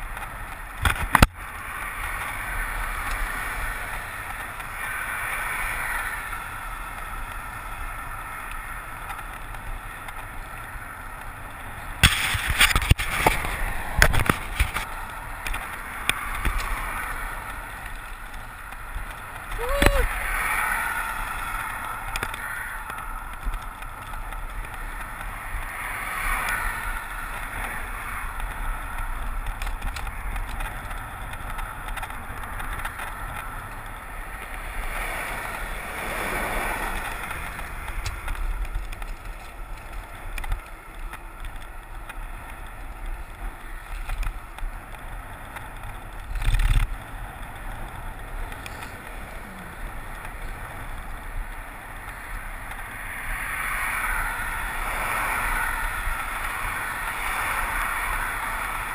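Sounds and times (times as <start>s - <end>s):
cars passing: 0.0s - 58.9s
wind rumbling on microphone: 0.0s - 58.9s.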